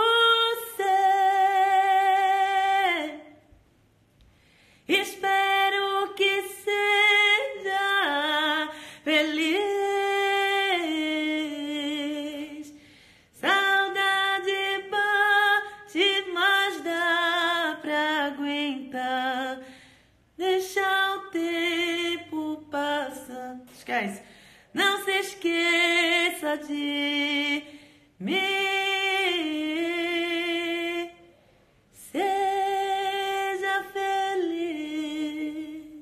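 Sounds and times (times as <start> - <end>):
woman singing unaccompanied: 0.0 - 3.5, 4.9 - 12.8, 13.4 - 19.7, 20.4 - 31.3, 31.9 - 36.0.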